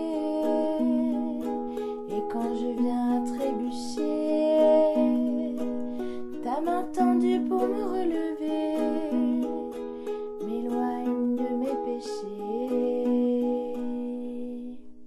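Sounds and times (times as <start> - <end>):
plucked string instrument music: 0.0 - 15.0.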